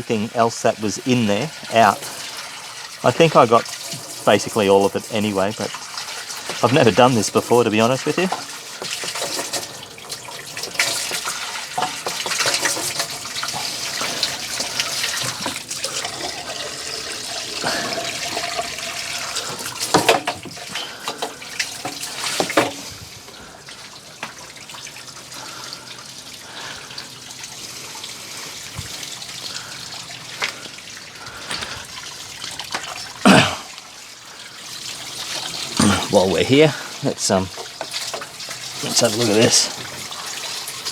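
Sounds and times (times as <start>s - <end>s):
water flowing from drain: 0.0s - 40.9s.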